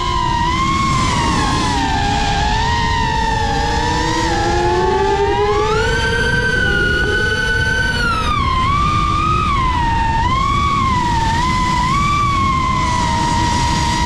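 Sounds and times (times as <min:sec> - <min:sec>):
drone motors whining: 0:00.0 - 0:14.0
wind noise: 0:00.0 - 0:14.0.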